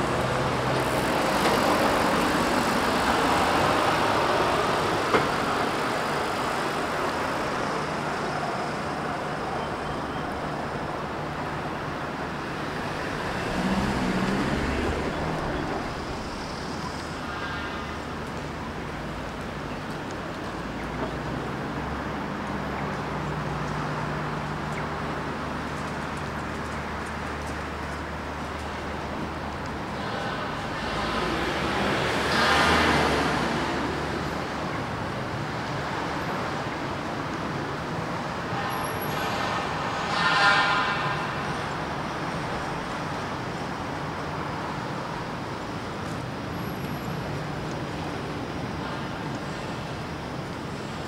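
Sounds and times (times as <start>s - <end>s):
passing cars and buses: 0.0s - 51.0s.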